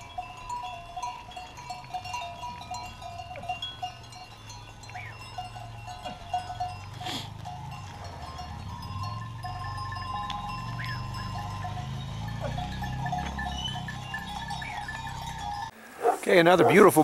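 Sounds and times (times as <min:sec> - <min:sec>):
goat bells clinking: 0:00.0 - 0:15.8, 0:16.5 - 0:17.0.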